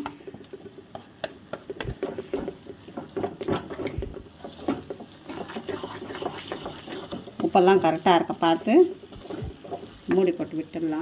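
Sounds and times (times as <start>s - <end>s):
wooden spatula scraping metal pan: 0.0s - 11.0s.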